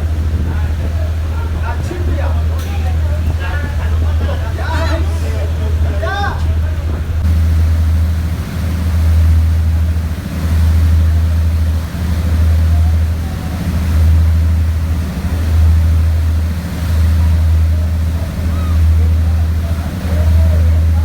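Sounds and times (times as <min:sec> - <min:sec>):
boat engine rumble: 0:00.0 - 0:21.0
wind buffeting microphone: 0:00.0 - 0:21.0.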